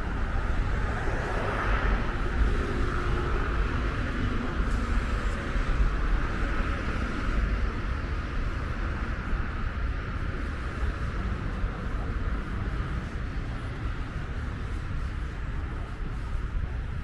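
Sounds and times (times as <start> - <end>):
city road traffic rumble: 0.0 - 17.0.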